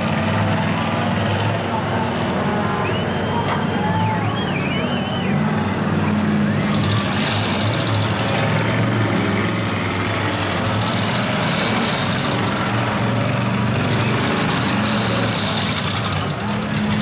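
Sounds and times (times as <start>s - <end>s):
car engines running loudly: 0.0s - 17.0s.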